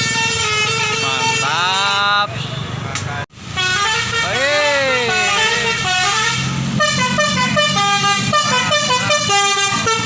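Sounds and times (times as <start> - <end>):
bus horn playing a melody: 0.0 - 2.6, 3.5 - 10.0
low rumble of bus engines: 0.0 - 10.0.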